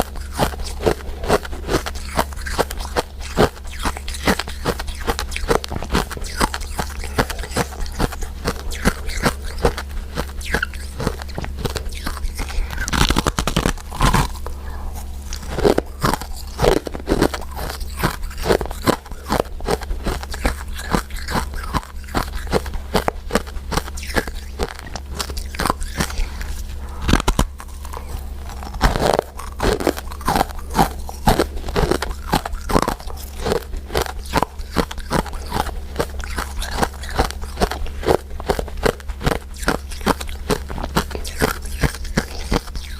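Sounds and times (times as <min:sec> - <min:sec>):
crunchy chewing of sweets: 0:00.0 - 0:42.9
steady low hum: 0:00.0 - 0:42.9.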